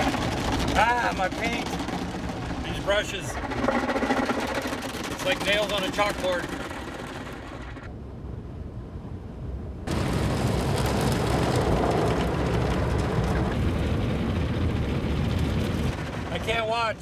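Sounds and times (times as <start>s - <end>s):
car wash brushes and water rushing: 0.0s - 7.9s, 9.9s - 17.0s.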